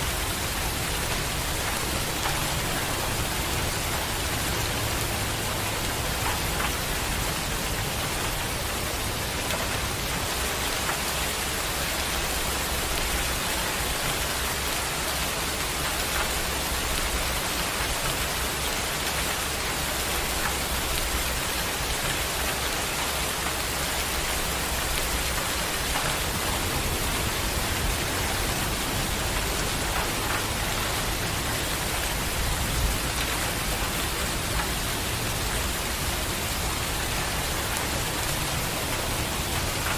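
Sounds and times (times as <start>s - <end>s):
heavy rain falling: 0.0s - 39.9s
raindrops ticking: 0.0s - 39.9s.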